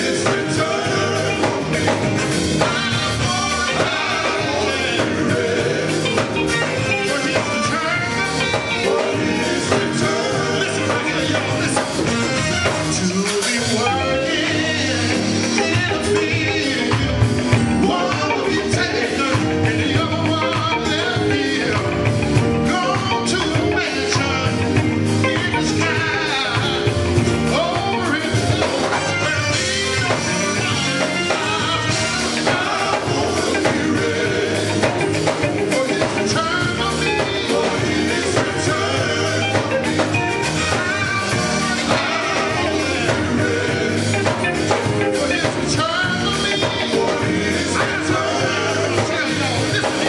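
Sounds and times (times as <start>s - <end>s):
backing singers: 0.0s - 50.0s
drum kit steady beat: 0.0s - 50.0s
electric guitar: 0.0s - 50.0s
person singing into a microphone: 2.6s - 50.0s.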